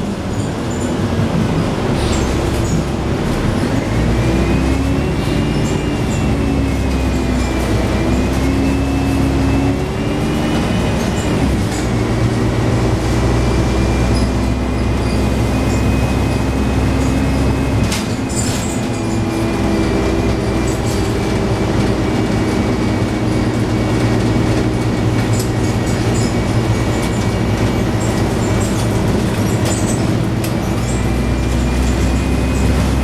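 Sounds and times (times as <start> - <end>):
bus engine droning: 0.0 - 33.0
high transmission whine: 0.0 - 33.0.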